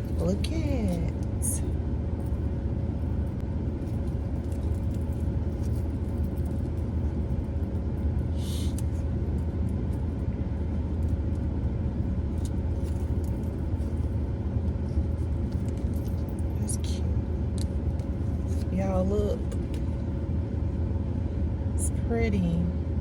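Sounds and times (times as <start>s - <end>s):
car engine rumbling: 0.0s - 23.0s
faint steady hum: 0.0s - 23.0s.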